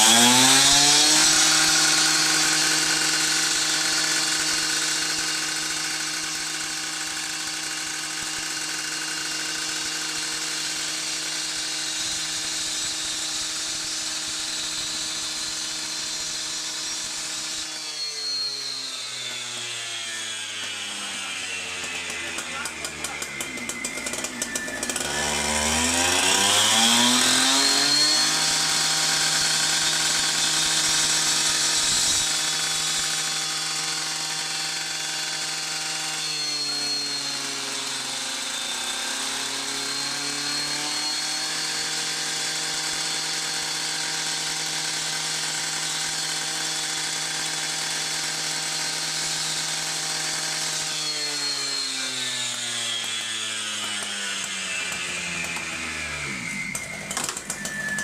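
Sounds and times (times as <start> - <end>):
electric power tool cutting: 0.0 - 58.0.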